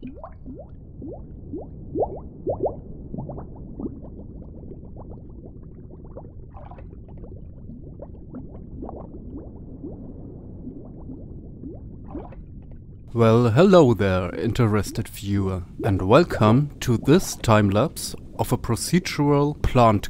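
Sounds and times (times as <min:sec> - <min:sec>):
bubbles rising and popping: 0:00.0 - 0:18.4
low underwater rumble: 0:00.0 - 0:18.4.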